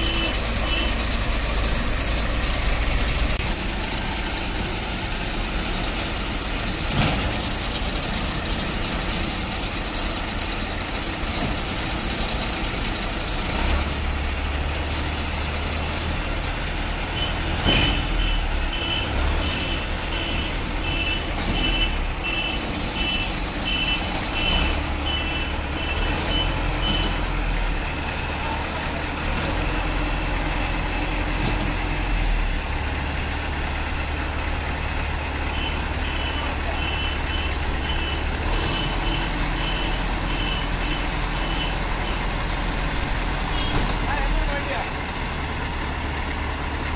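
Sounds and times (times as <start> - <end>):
diesel engines running: 0.0 - 46.9.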